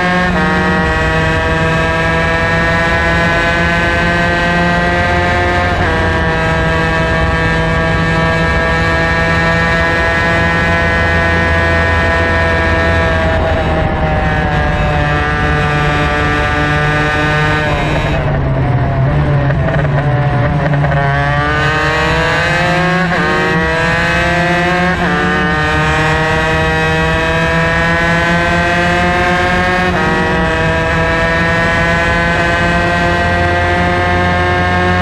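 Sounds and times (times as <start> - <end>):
two-stroke kart engine racing: 0.0 - 35.0.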